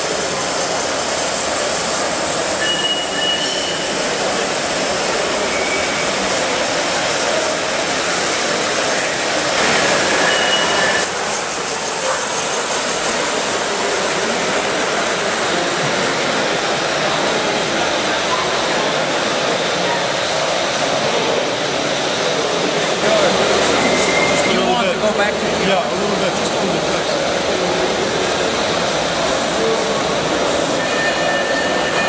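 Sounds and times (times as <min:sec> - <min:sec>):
model steam locomotive running: 0:00.0 - 0:32.0.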